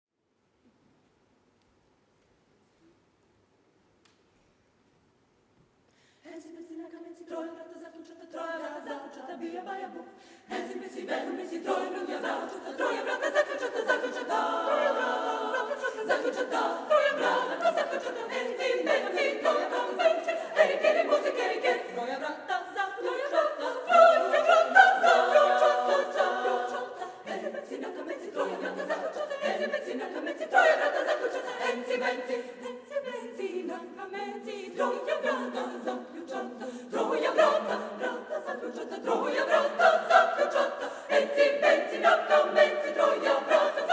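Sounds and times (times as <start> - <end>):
women's choir singing a cappella: 6.2 - 43.9.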